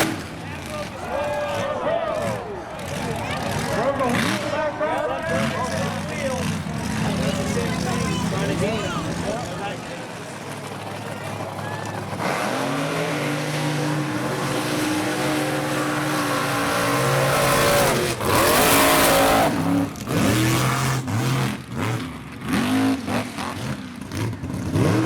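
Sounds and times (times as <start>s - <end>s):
short sharp engine revs: 0.0s - 25.0s
truck engine running: 0.0s - 25.0s.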